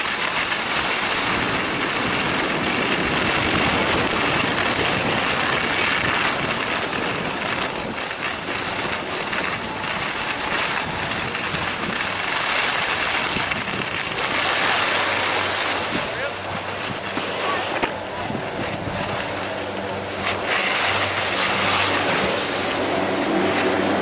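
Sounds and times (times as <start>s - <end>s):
skis scraping over packed snow: 0.0s - 24.0s.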